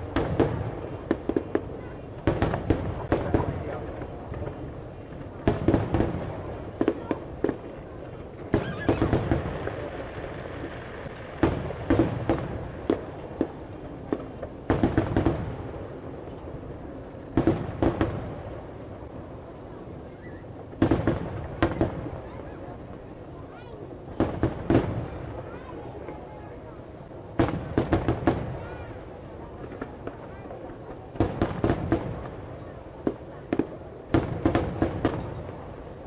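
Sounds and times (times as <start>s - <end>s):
low background noise: 0.0s - 36.0s.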